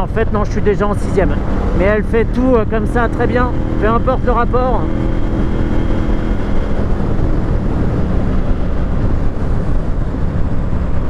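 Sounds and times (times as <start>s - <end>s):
heavy wind rush: 0.0s - 11.0s
motorcycle engine running: 0.0s - 11.0s.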